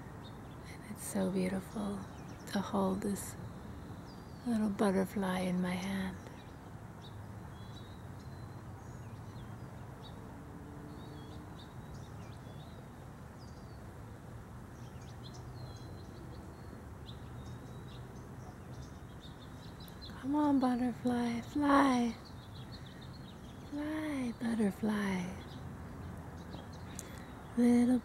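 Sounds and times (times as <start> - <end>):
outdoor background hiss: 0.0 - 28.0
small birds chirping: 0.0 - 28.0.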